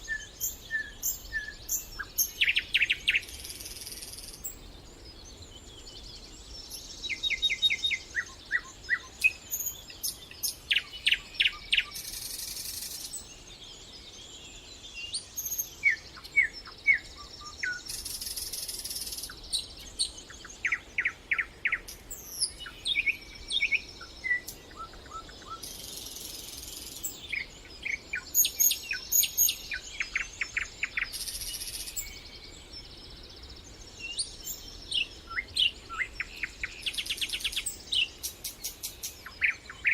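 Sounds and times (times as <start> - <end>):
buzzy hiss-like bird phrase: 0.0 - 39.9
songbirds chirping and trilling: 0.0 - 39.9.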